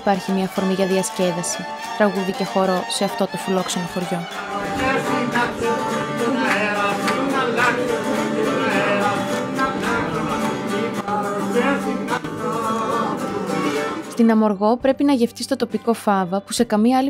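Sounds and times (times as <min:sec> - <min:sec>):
folk dance music on violin and lute: 0:00.0 - 0:14.2.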